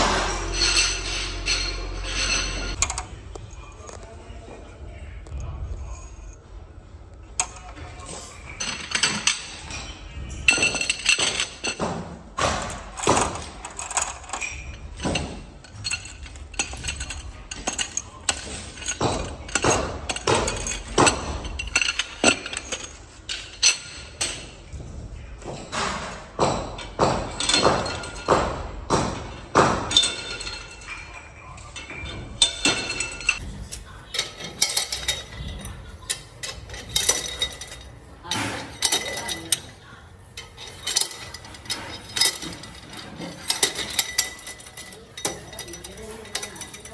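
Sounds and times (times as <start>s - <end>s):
metal tools clinking and knocking: 0.0s - 4.1s, 7.2s - 46.9s.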